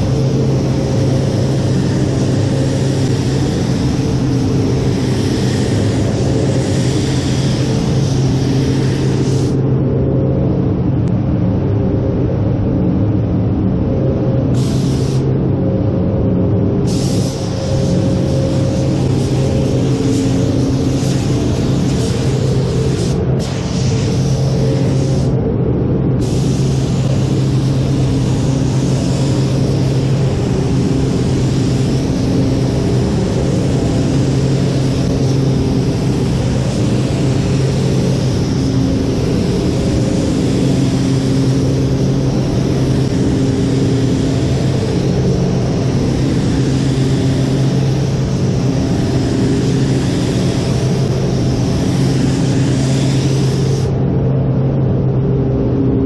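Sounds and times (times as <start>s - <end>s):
spray gun hissing: 0.0s - 9.6s, 14.6s - 15.3s, 16.9s - 25.4s, 26.2s - 54.0s
ventilation fans droning: 0.0s - 56.0s.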